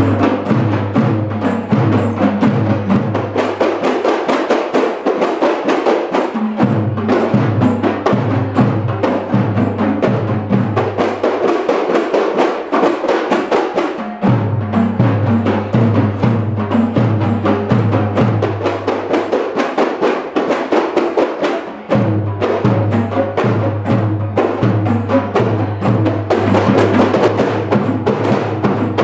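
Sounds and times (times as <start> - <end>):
frame drums played in rhythm: 0.0 - 29.0.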